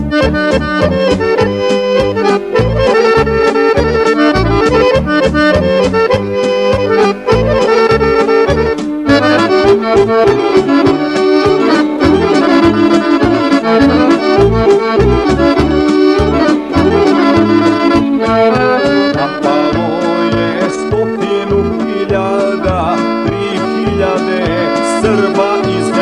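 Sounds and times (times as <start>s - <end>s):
accordion playing fast melody: 0.0s - 26.0s
band bass beat: 0.0s - 26.0s.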